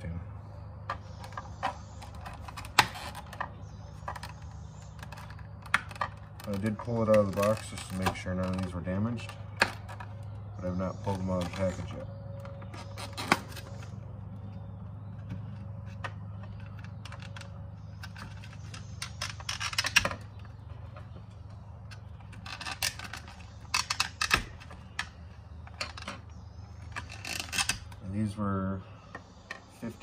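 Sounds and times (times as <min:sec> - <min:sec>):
steady low hum: 0:00.0 - 0:30.0
bolts clicking and rattling: 0:00.7 - 0:30.0.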